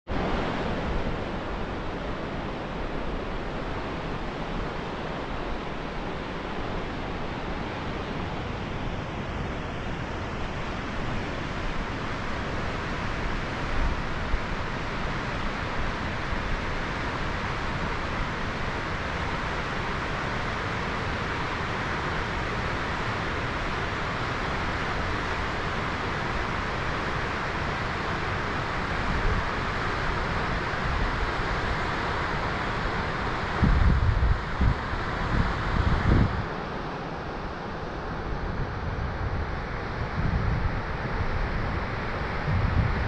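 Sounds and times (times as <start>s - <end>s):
river rushing through rapids: 0.1s - 43.0s.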